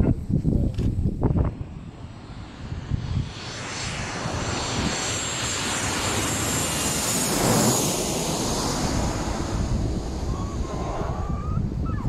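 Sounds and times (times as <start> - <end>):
airliner passing low overhead: 0.0 - 12.0.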